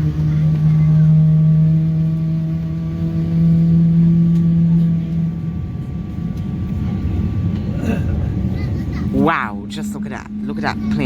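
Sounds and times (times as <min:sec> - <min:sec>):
jet engine drone in cabin: 0:00.0 - 0:11.0
low rumble: 0:00.0 - 0:11.0.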